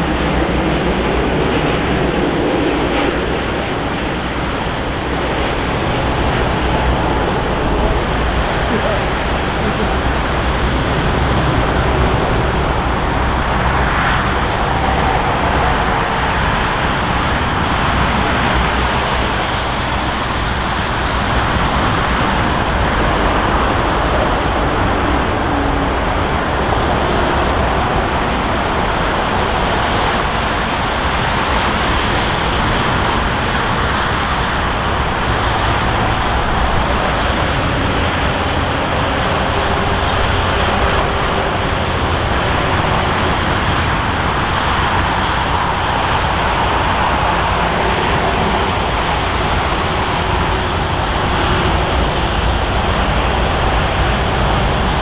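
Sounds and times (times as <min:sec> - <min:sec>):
jet engine rushing: 0:00.0 - 0:55.0.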